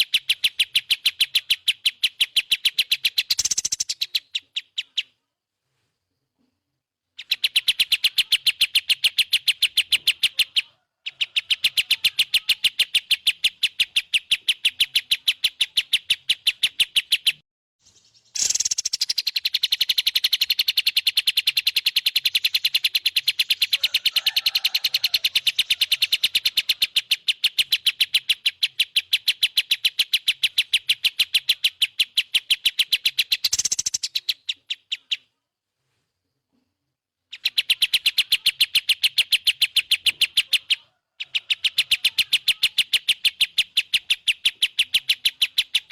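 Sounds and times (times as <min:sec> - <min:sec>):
songbird trilling: 0:00.0 - 0:05.2, 0:07.2 - 0:35.4, 0:37.3 - 0:45.9.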